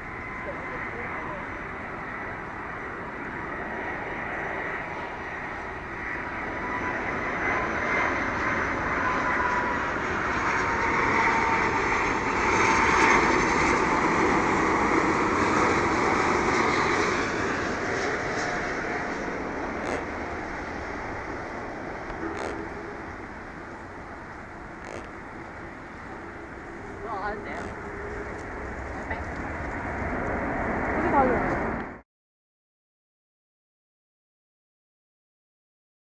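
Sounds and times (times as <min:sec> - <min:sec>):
jet airliner engine whine: 0:00.0 - 0:32.0.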